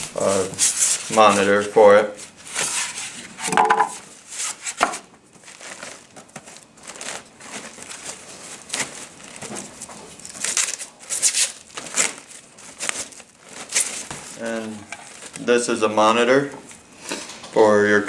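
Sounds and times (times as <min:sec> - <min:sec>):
crinkling and rustling: 0:00.0 - 0:17.6.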